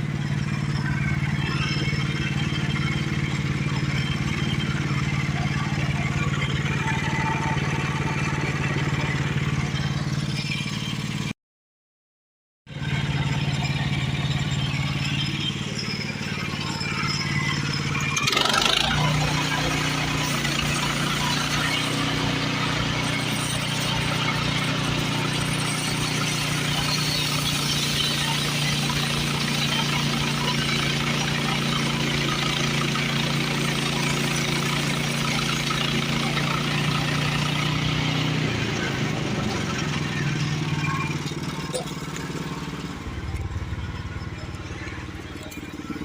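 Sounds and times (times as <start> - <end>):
engine running steadily: 0.0 - 11.3, 12.7 - 46.0.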